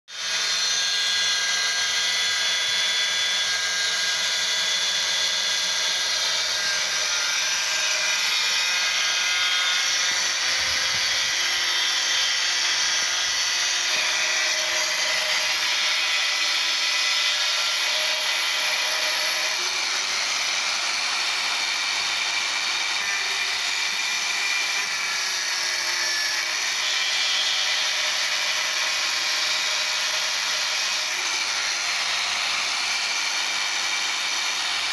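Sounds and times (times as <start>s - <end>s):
angle grinder cutting steel: 0.1s - 34.9s.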